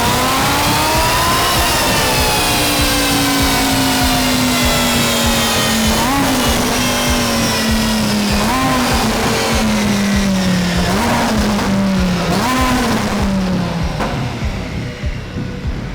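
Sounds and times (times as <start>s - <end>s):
sports car engine at speed: 0.0s - 15.9s.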